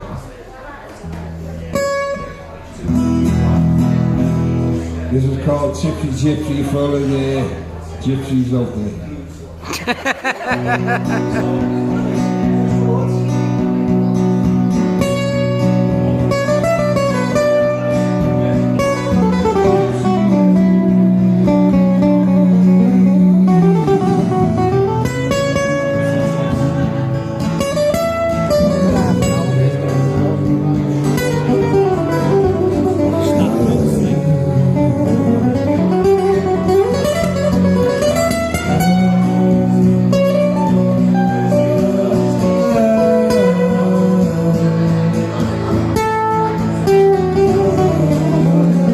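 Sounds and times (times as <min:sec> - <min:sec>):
acoustic guitar playing: 0:01.0 - 0:48.9.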